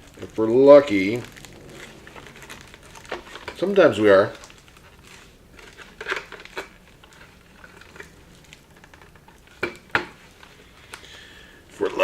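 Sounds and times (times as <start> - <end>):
stuffed toy rustling: 0.0 - 11.0.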